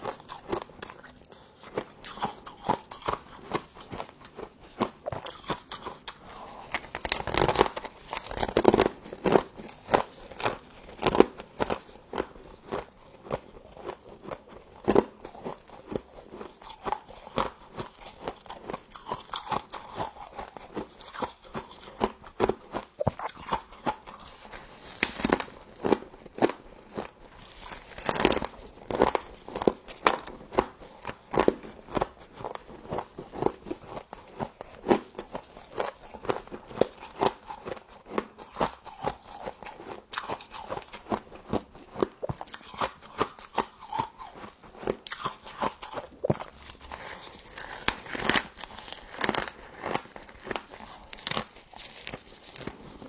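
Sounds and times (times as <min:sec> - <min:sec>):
crunching and chewing frost: 0:00.0 - 0:53.0.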